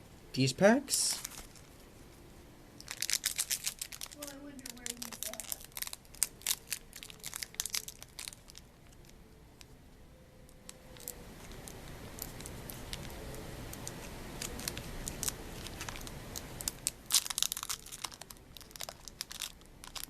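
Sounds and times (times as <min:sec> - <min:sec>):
foil wrappers crinkling: 0:01.0 - 0:01.8, 0:02.8 - 0:09.7, 0:10.6 - 0:20.0.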